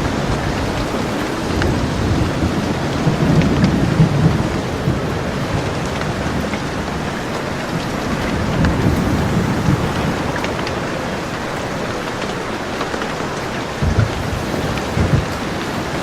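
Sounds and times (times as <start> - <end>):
heavy rain falling: 0.0 - 16.0
low thunder rumbles: 0.0 - 16.0.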